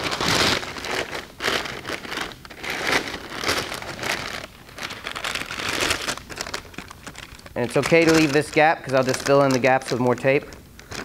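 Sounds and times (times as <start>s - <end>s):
masking paper crinkling: 0.0s - 11.0s.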